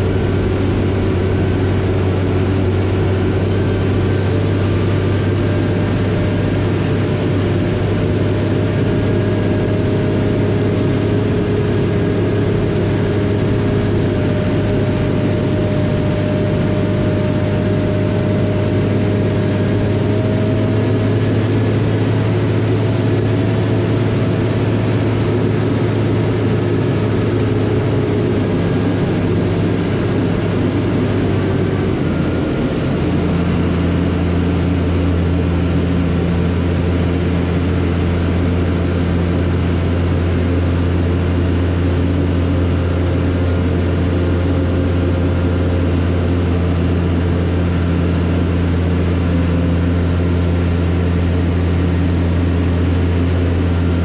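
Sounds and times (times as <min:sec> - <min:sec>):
tug engine drone: 0:00.0 - 0:54.0.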